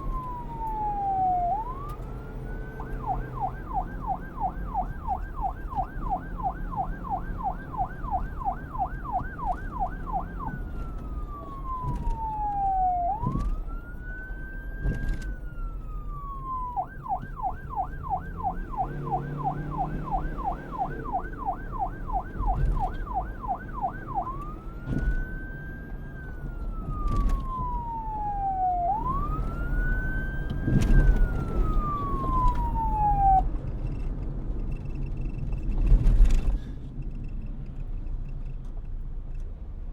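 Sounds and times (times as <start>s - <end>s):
police siren yelp and wail: 0.0s - 33.5s.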